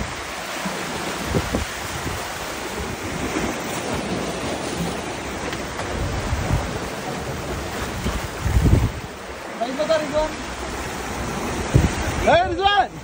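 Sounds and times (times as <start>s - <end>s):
wind buffeting microphone: 0.0s - 9.4s, 10.2s - 13.0s
sea waves breaking on rocks: 0.0s - 13.0s.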